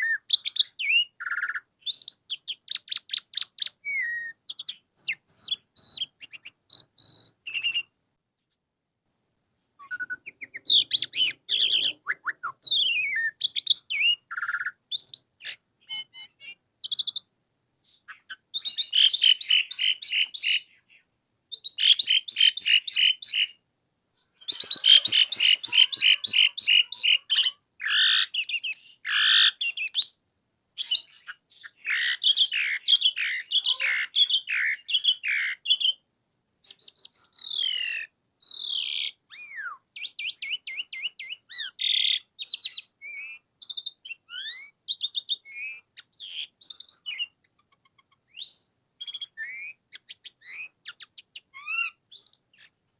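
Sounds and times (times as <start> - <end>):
starling singing: 0.0 - 8.0, 9.8 - 17.3, 18.0 - 23.6, 24.3 - 30.2, 30.8 - 36.0, 36.6 - 52.9.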